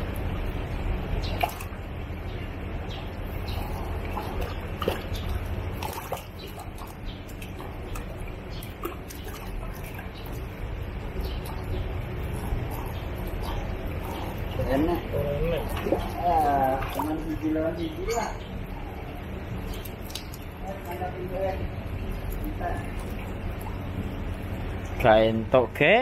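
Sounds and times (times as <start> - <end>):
steady low hum: 0.0 - 26.0
water splashing and dripping: 0.0 - 26.0.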